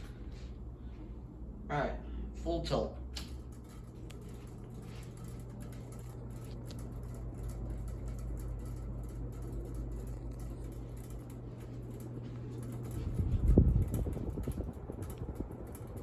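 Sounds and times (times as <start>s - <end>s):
fan blades clicking: 0.0s - 1.1s, 2.4s - 16.0s
ceiling fan humming: 0.0s - 16.0s.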